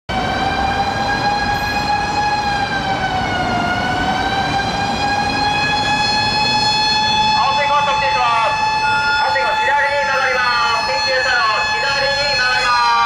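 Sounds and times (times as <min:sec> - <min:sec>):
city traffic rumble: 0:00.1 - 0:13.0
fire engine siren wailing: 0:00.1 - 0:13.0.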